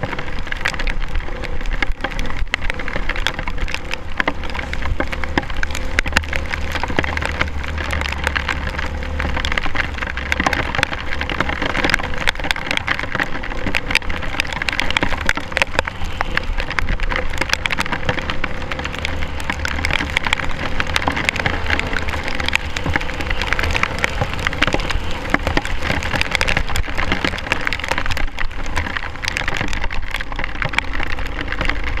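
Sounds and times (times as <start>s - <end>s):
rain pattering on camera housing: 0.0s - 32.0s
steady low rumble: 1.0s - 29.3s.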